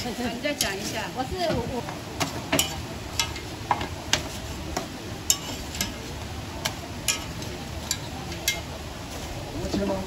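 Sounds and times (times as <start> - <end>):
utensils tapping on a pan: 0.0 - 8.7
low background noise: 0.0 - 10.0.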